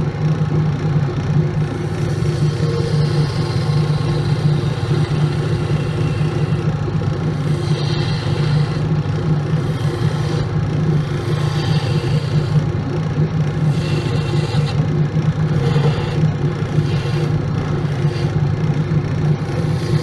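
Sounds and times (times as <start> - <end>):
wood lathe motor hum: 0.0 - 20.0
turning tool cutting wood: 1.6 - 20.0.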